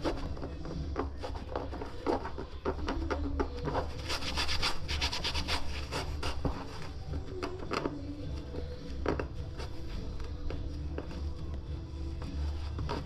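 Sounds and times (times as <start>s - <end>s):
rubber tyre scraping against rim: 0.0s - 11.3s, 11.9s - 13.0s.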